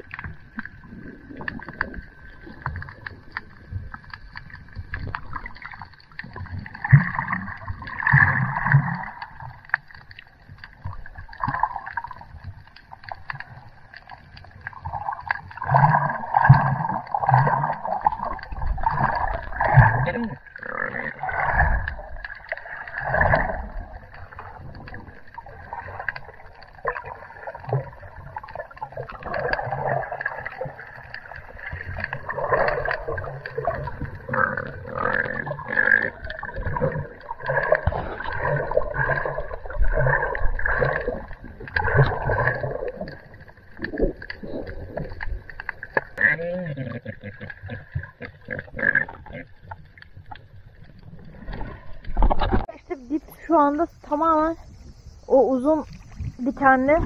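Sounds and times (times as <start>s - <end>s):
underwater sloshing and gurgling: 0.0s - 57.0s.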